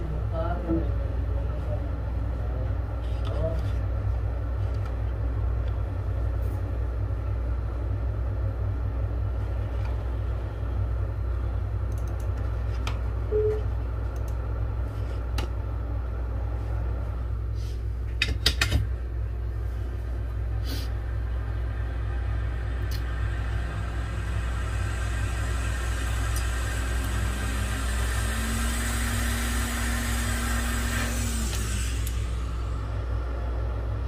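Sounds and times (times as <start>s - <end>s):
steady low rumble: 0.0s - 18.2s, 18.8s - 34.0s.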